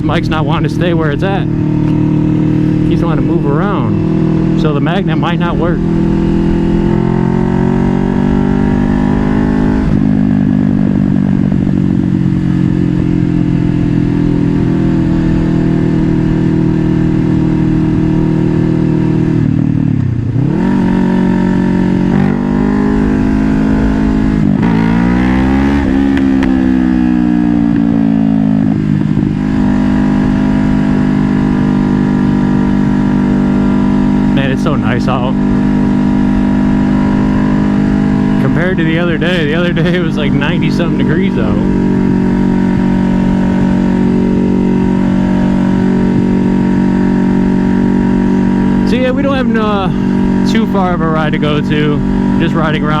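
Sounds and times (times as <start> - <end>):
low wind rumble: 0.0 - 53.0
motorcycle engine running: 0.0 - 53.0.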